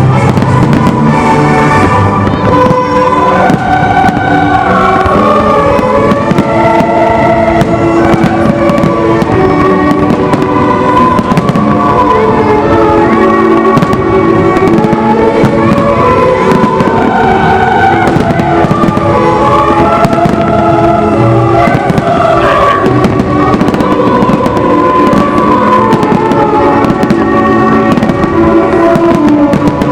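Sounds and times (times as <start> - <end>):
fireworks bangs and crackles: 0.0 - 29.9
loud music with held notes: 0.0 - 29.9.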